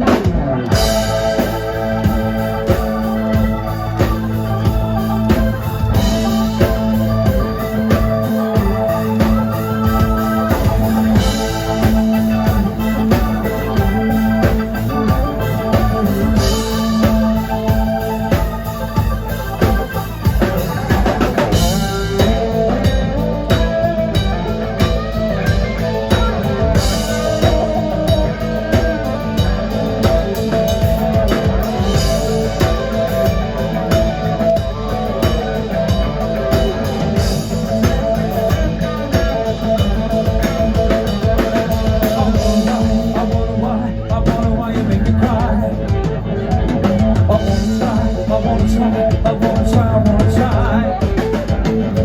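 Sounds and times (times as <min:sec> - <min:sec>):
drum kit beat: 0:00.0 - 0:52.0
electric guitar: 0:00.0 - 0:52.0.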